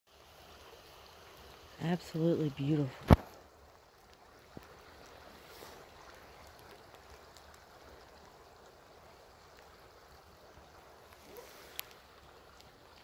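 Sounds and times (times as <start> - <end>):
brook flowing over rocks: 0.1 - 13.0.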